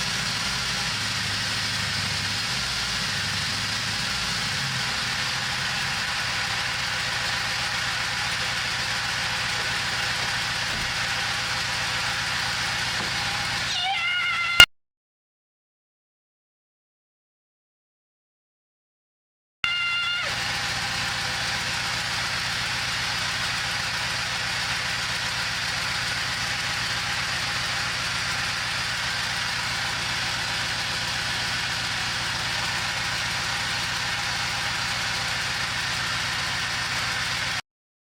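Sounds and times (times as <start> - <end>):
engine hiss: 0.0 - 13.7, 19.7 - 37.6
diesel engine idling: 0.0 - 14.4, 19.7 - 37.6.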